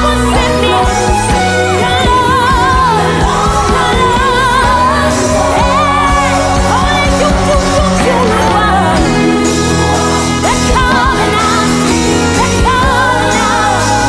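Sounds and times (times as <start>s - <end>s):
band accompaniment: 0.0s - 14.0s
woman singing worship song: 0.0s - 14.0s.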